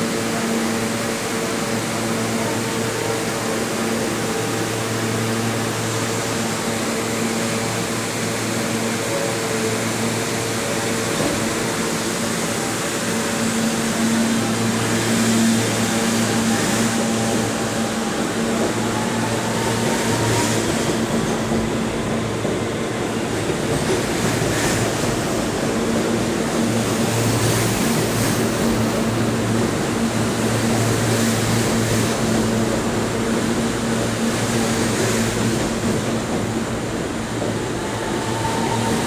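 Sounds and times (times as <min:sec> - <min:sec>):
subway train motor hum: 0:00.0 - 0:39.0.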